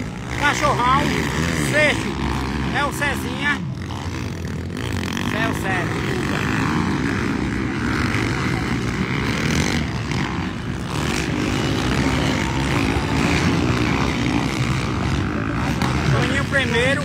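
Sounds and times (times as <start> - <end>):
motocross bike engines droning: 0.0 - 17.0.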